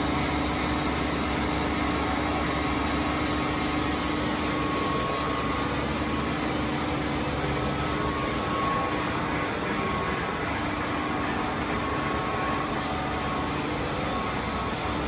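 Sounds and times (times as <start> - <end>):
grinding machine humming: 0.0 - 15.0.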